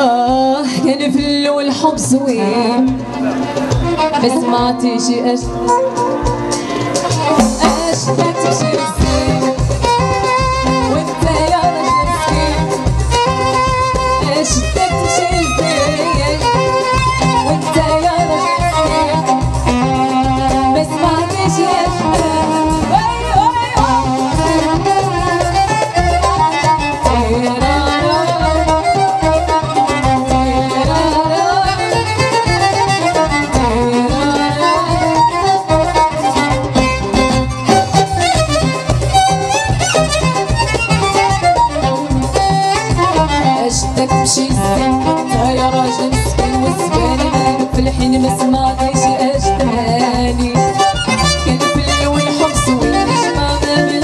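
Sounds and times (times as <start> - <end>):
keyboard and electric guitar: 0.0 - 54.0
ornamented lead melody: 0.0 - 54.0.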